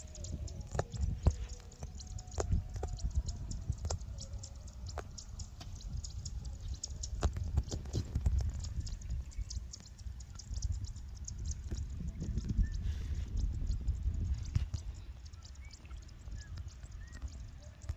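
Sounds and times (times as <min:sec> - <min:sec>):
small clicks and crackles: 0:00.0 - 0:17.9
wind rumbling on microphone: 0:00.0 - 0:17.9.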